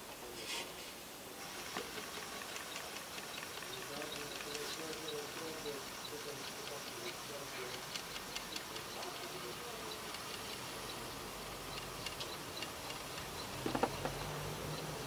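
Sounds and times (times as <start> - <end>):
faint motor buzz: 1.3 - 15.0
light ticks: 1.7 - 15.0.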